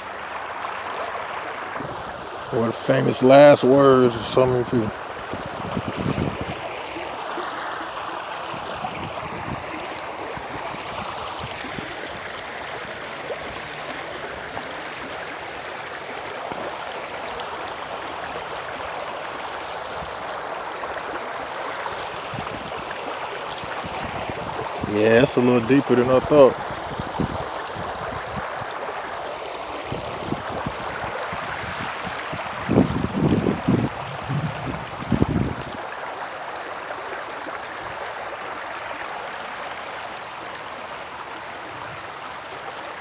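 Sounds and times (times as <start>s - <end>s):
creek water babbling: 0.0s - 43.0s.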